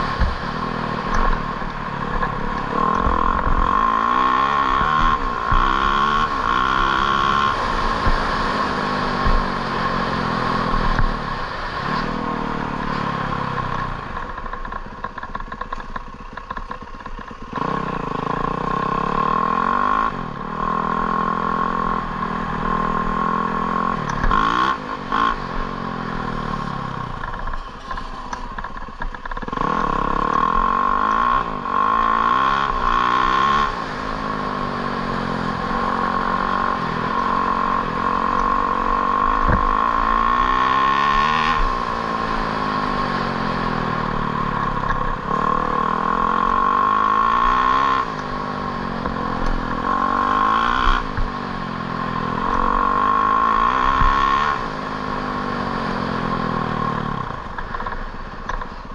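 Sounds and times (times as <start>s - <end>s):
steady high whine: 0.0s - 58.9s
vehicle engine revving: 0.0s - 58.9s.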